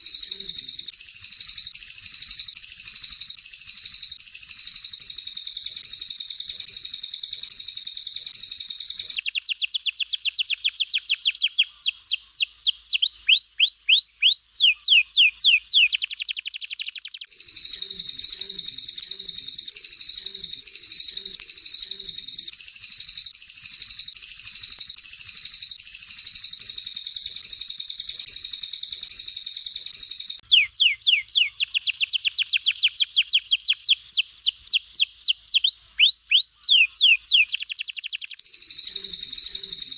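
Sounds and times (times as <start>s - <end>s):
canary buzzing trills: 0.0s - 39.9s.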